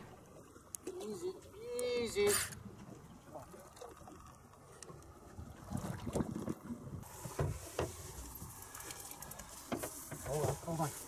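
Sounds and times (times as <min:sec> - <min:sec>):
water slapping boat side: 0:00.0 - 0:11.0.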